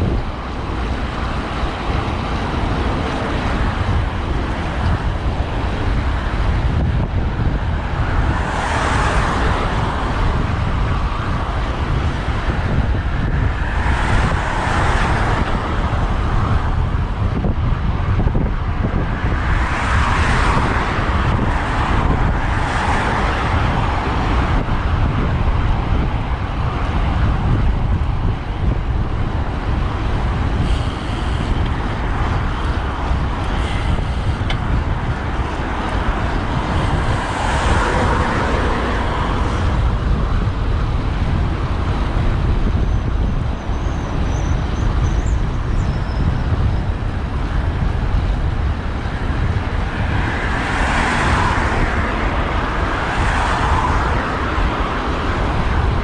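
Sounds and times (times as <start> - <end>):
cars passing: 0.0 - 45.8, 46.6 - 56.0
wind rumble on microphone: 0.0 - 56.0.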